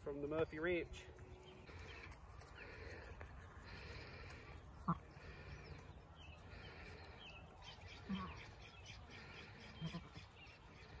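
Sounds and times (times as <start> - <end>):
small birds chirping faintly: 0.0 - 11.0.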